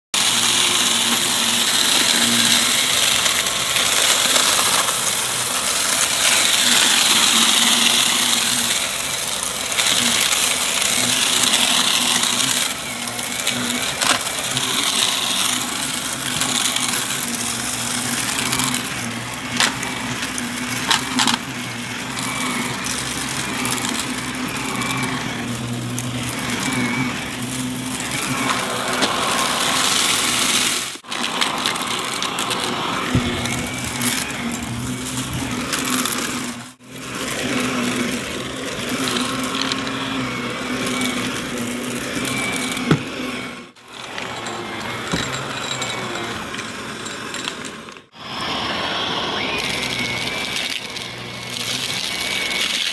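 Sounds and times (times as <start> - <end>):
upright vacuum running: 0.0 - 52.9
brushroll crunching and rattling: 0.1 - 48.2, 49.4 - 52.9.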